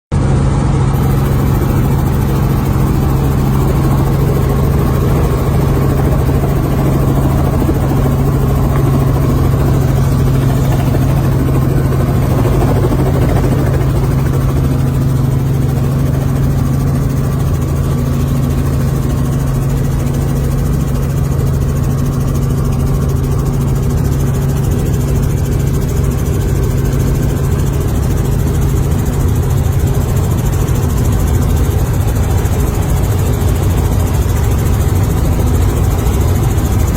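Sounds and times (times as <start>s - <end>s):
helicopter engine and rotor drone: 0.1s - 36.9s.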